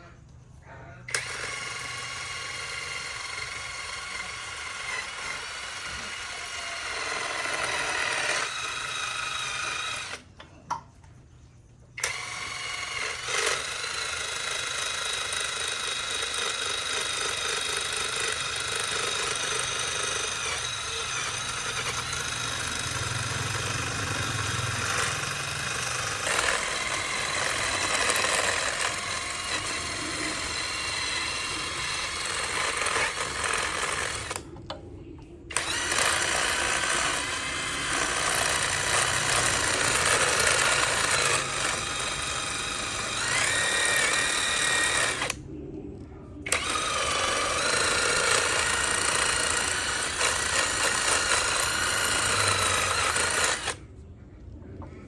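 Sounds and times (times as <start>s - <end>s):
electric power tool whining: 1.1s - 10.3s, 12.0s - 34.5s, 35.5s - 45.4s, 46.5s - 53.8s.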